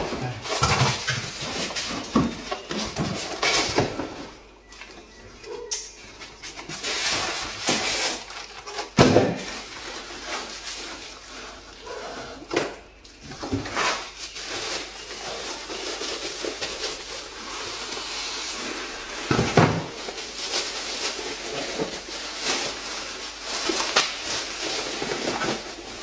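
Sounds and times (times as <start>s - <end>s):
packaging rustling: 0.0s - 26.0s.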